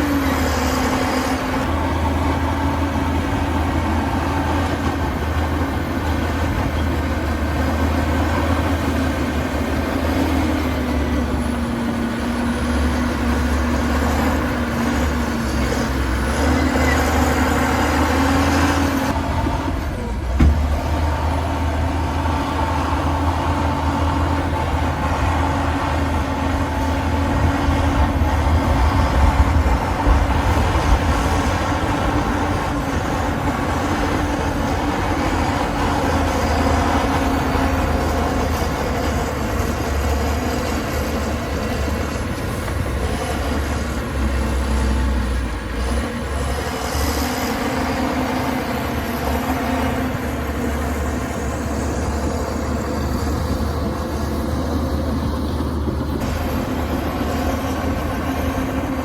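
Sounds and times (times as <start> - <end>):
heavy diesel machinery rumbling: 0.0 - 59.0.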